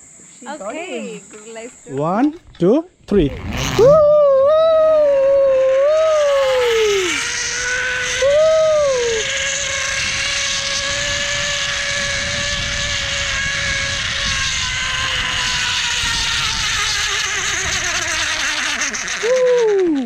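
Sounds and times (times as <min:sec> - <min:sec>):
zip-line pulleys whining on cable: 0:03.2 - 0:20.0.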